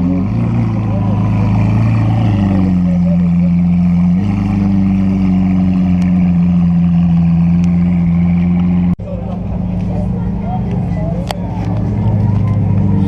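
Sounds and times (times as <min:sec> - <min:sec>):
car engine at raised revs: 0:00.0 - 0:13.0.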